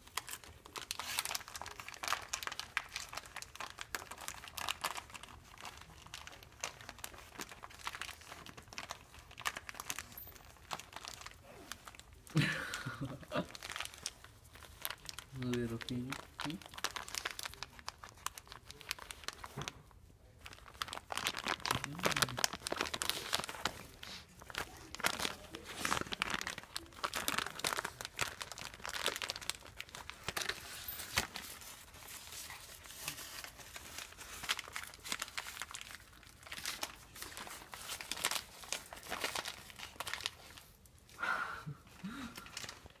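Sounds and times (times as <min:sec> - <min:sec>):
plastic bag rustling: 0:00.0 - 0:40.8, 0:42.0 - 0:43.0.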